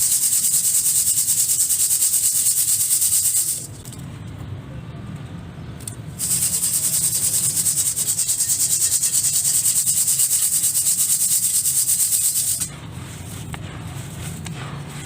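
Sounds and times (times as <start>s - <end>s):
gritty material rubbed rapidly: 0.0s - 3.8s, 6.2s - 15.0s.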